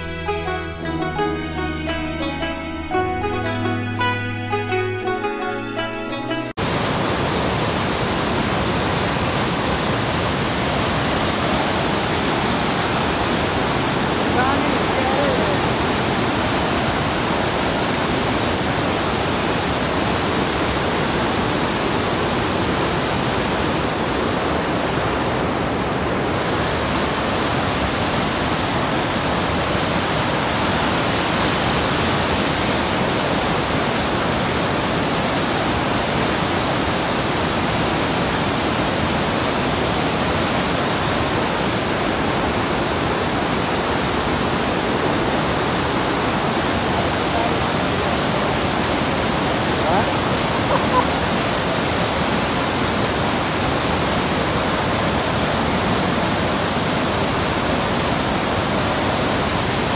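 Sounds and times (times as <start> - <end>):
rushing floodwater river: 6.6 - 59.9.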